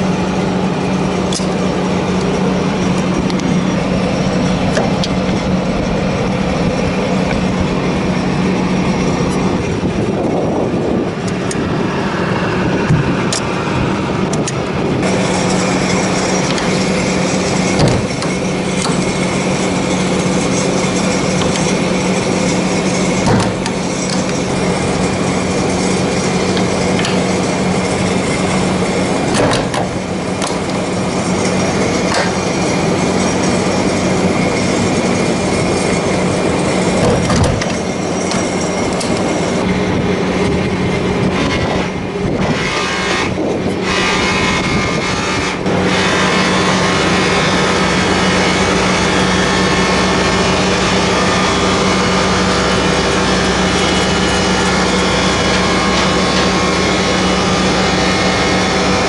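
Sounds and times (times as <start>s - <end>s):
machinery drone: 0.0s - 59.0s.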